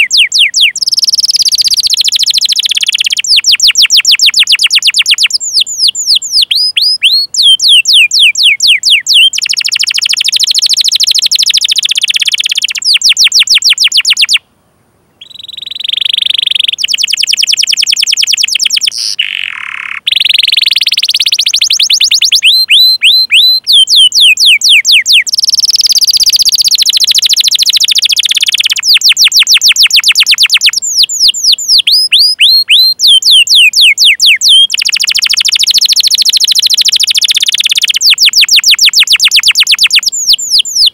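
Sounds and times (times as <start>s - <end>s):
canary singing: 0.0s - 14.5s, 15.1s - 40.9s.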